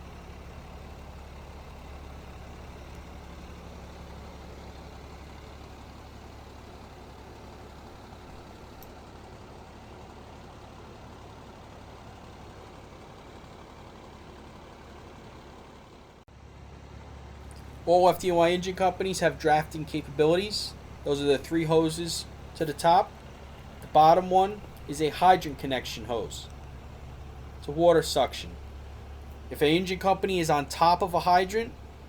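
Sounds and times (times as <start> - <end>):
fire engine idling: 0.0 - 32.0.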